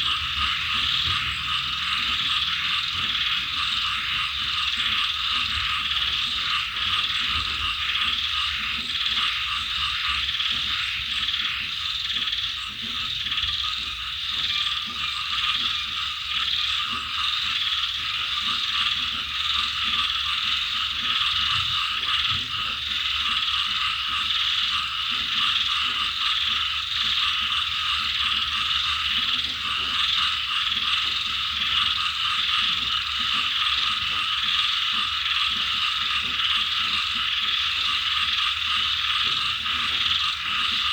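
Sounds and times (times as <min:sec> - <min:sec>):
frogs croaking: 0:00.0 - 0:40.9
insects trilling: 0:00.0 - 0:40.9.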